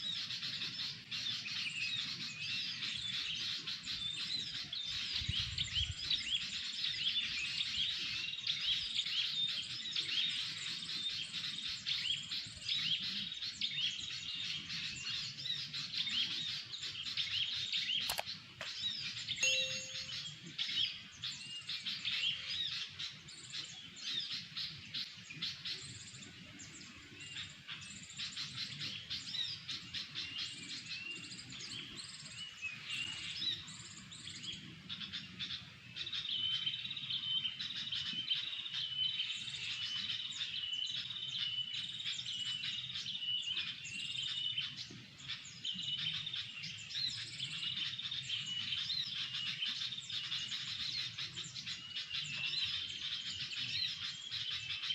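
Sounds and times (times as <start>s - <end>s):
birds singing and chirping: 0.0s - 54.9s.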